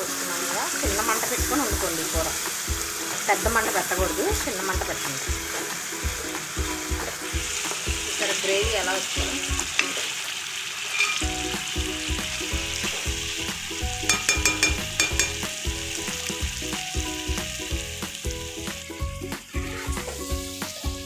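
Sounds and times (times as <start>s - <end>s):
gravy sizzling in a pan: 0.0s - 21.0s
background music with steady beat: 0.8s - 10.0s, 11.2s - 21.0s.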